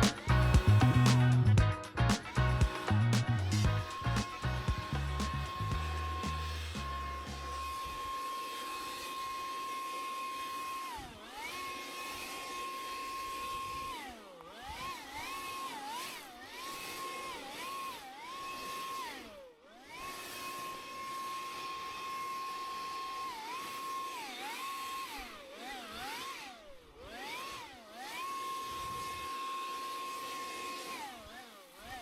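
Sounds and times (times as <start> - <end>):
chainsaw cutting at high revs: 0.0 - 32.0.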